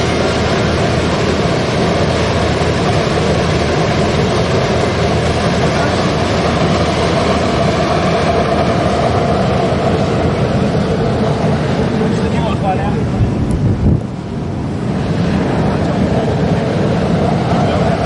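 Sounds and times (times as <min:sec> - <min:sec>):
burner blower and flame rushing: 0:00.0 - 0:18.0.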